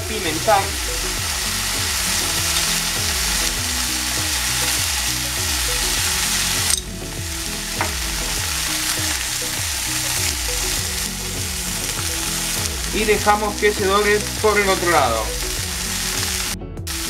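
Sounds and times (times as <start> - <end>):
background music with low beat: 0.0 - 17.0
meat sizzling in a frying pan: 0.2 - 17.0.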